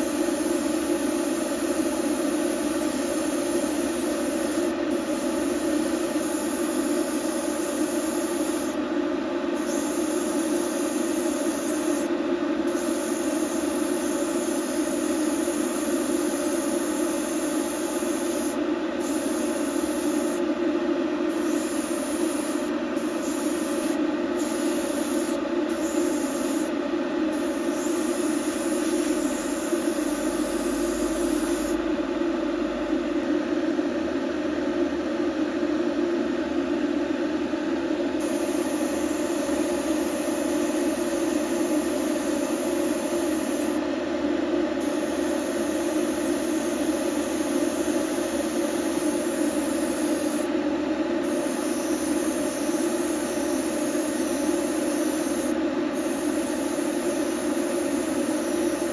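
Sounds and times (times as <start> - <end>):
steady mechanical hum: 0.0 - 58.9.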